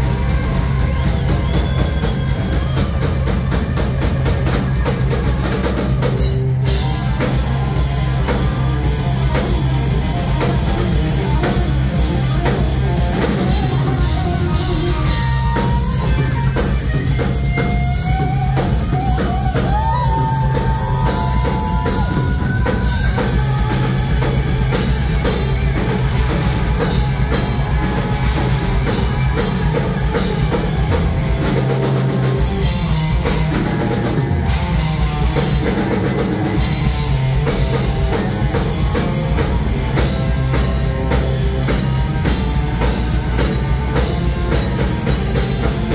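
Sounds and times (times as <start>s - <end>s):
hard rock band playing live: 0.0s - 45.9s.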